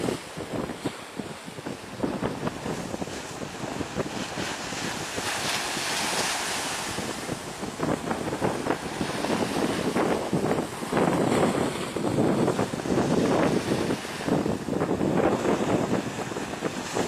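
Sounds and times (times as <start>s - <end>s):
sea water sloshing and splashing: 0.0s - 17.0s
surf washing: 0.0s - 17.0s
wind buffeting microphone: 0.0s - 17.0s.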